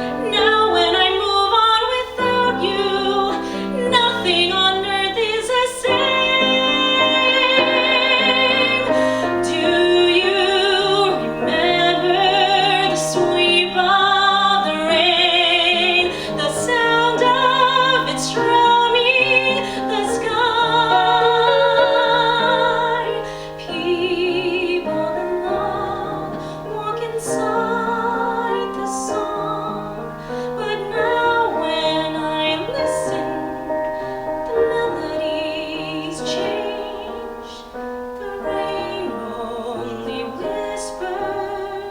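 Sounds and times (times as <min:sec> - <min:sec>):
piano accompaniment: 0:00.0 - 0:41.9
woman singing a ballad: 0:00.0 - 0:41.9.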